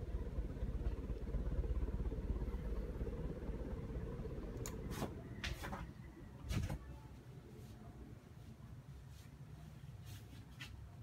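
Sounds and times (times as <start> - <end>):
fan motor hum: 0.0 - 9.0
ceiling fan blades whooshing: 0.0 - 11.0.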